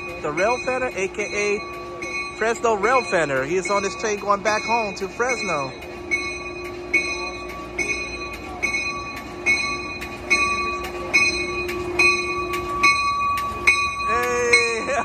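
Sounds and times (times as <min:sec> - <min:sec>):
locomotive bell ringing: 0:00.0 - 0:15.0
locomotive engine drone: 0:00.0 - 0:15.0.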